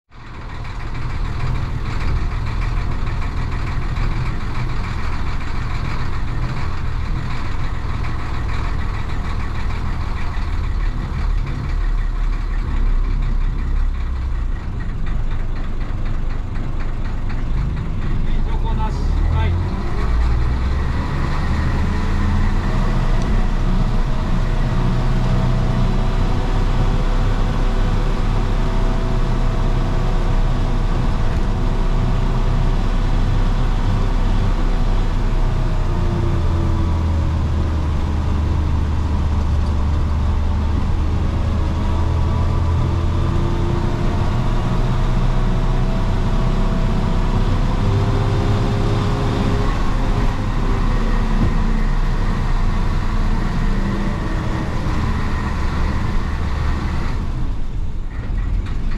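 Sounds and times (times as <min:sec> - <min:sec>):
diesel engine rumbling: 0:00.0 - 0:58.9.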